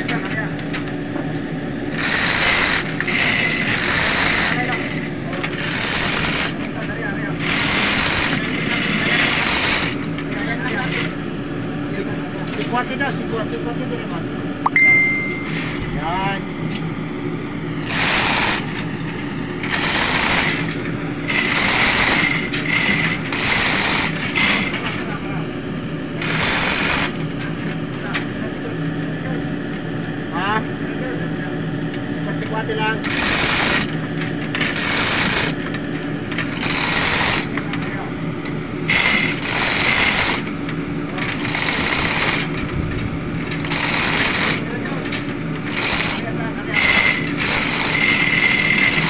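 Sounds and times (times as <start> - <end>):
machinery hum: 0.0 - 49.0.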